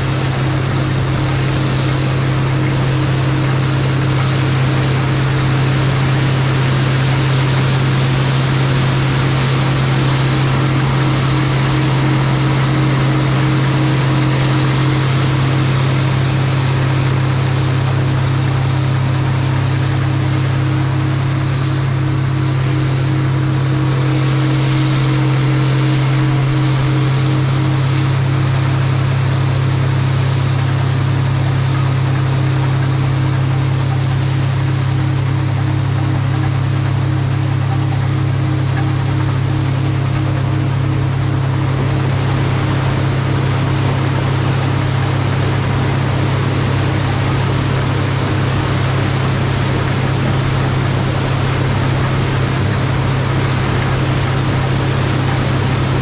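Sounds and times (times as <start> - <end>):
machine humming with hiss: 0.0 - 56.0.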